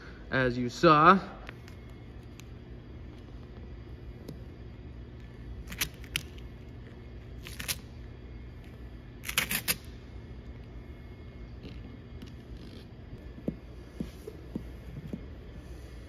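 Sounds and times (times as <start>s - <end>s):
low shop hum: 0.0s - 16.0s.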